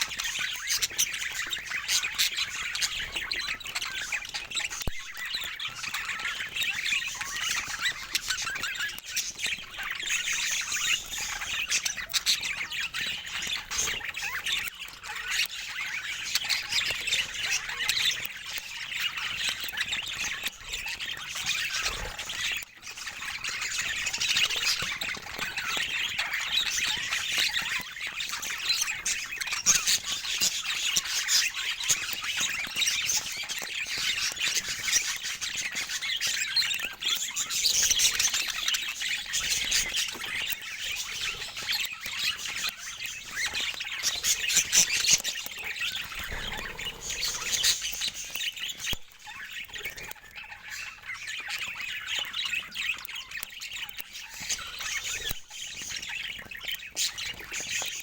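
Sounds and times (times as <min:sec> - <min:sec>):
budgerigars chattering and squawking: 0:00.0 - 0:58.0.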